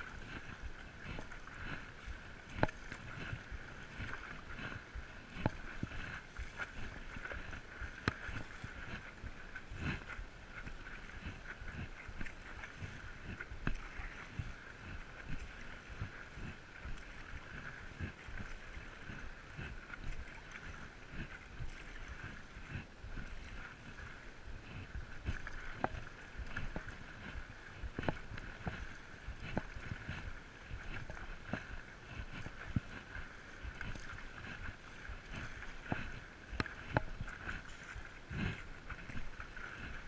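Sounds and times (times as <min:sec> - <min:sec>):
paddle stroke ticks: 0:00.0 - 0:40.0
water sloshing against board: 0:00.0 - 0:40.0
wind rumble on microphone: 0:00.0 - 0:40.0.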